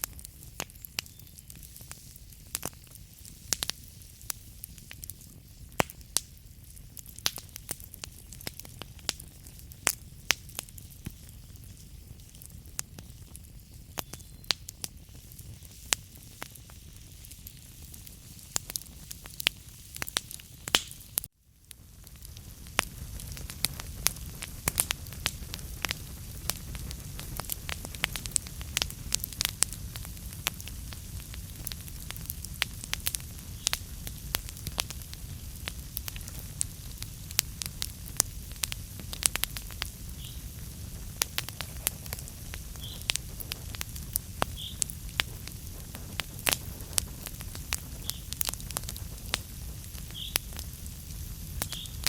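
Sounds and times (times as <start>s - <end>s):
fire crackling and popping: 0.0s - 52.0s
low rumble of flames: 0.0s - 52.0s.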